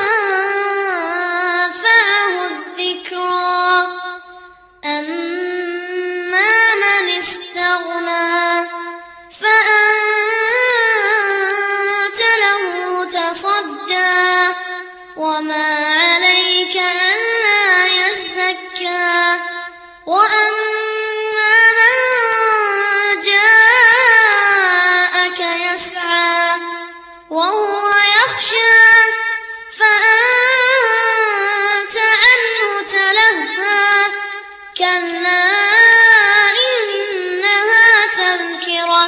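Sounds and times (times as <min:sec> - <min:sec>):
high voice melodic recitation: 0:00.0 - 0:39.0.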